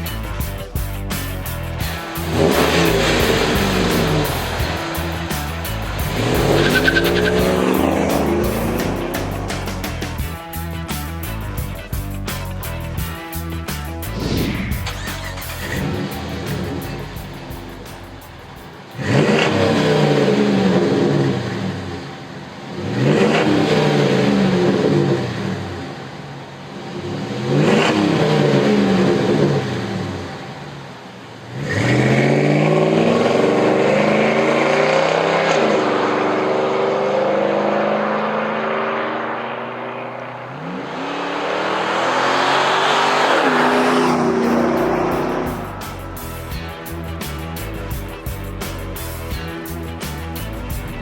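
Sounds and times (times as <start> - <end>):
truck engine revving: 0.0 - 21.9, 31.5 - 51.0.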